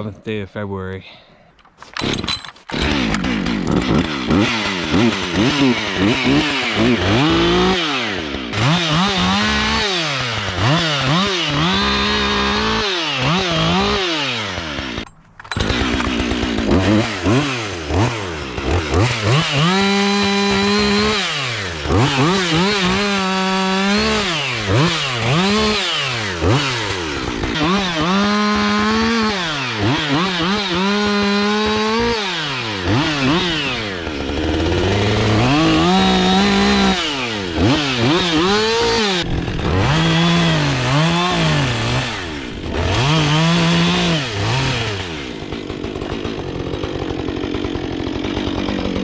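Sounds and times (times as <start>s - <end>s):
chainsaw cutting wood: 1.7s - 49.0s.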